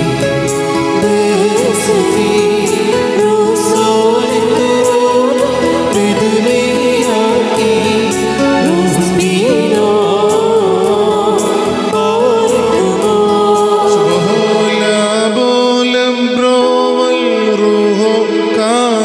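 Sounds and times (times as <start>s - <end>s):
electronic keyboard: 0.0s - 19.0s
man and woman singing hymn: 0.8s - 19.0s.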